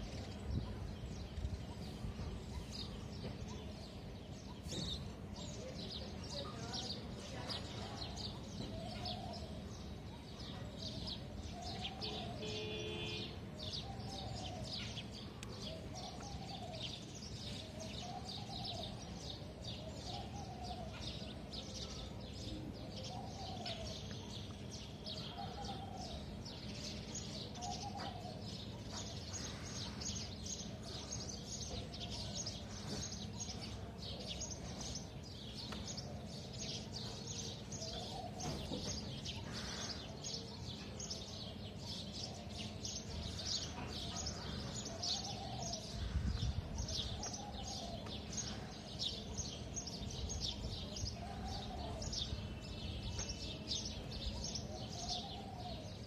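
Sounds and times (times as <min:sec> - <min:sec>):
birds chirping high-pitched: 0:00.0 - 0:56.0.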